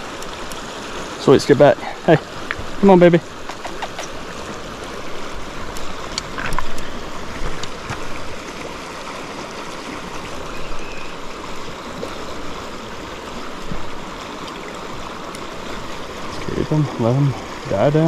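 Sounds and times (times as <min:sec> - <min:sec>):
river current flowing: 0:00.0 - 0:18.0.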